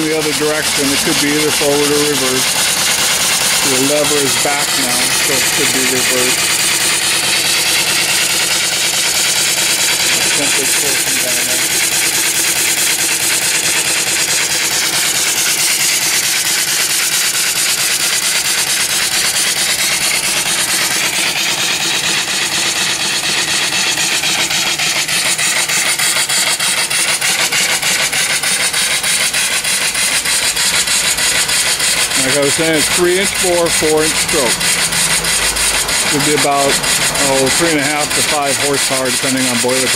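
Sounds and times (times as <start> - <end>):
steam engine exhaust hissing: 0.0 - 39.9.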